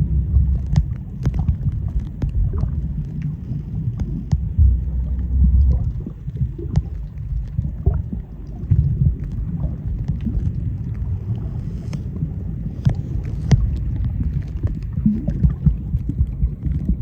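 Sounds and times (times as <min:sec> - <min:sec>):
muffled rumble of moving water: 0:00.0 - 0:17.0
sharp underwater clicks: 0:00.2 - 0:11.0, 0:12.8 - 0:17.0.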